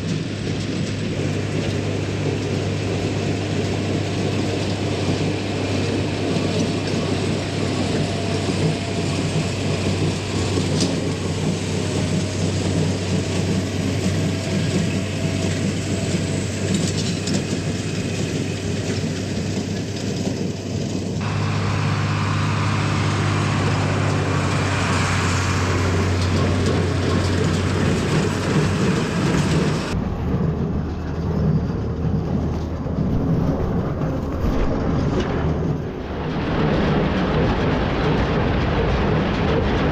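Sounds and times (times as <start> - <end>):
baler machinery noise: 0.0 - 39.9
tractor engine running: 0.0 - 39.9.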